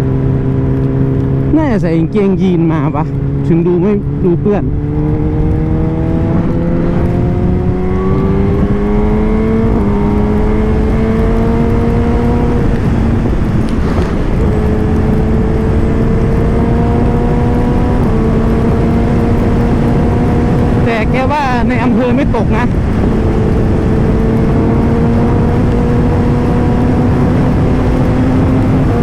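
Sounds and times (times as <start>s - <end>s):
motorcycle engine revving: 0.0s - 29.0s
wind and road rush: 0.0s - 29.0s.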